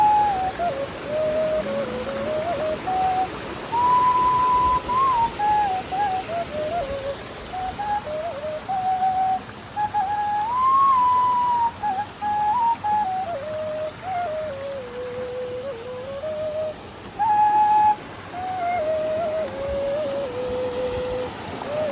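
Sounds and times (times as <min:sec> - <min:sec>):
whistle-like sliding melody: 0:00.0 - 0:21.9.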